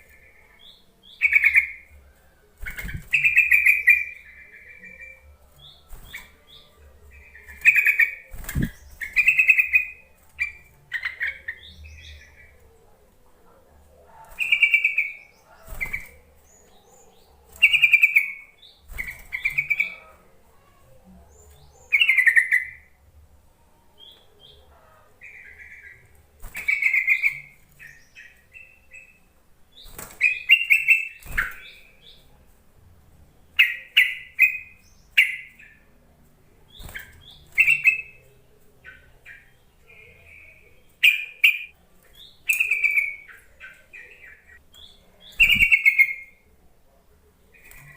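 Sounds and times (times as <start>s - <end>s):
bird chirping: 0.0s - 23.0s, 23.7s - 32.4s, 33.4s - 35.9s, 36.6s - 46.5s.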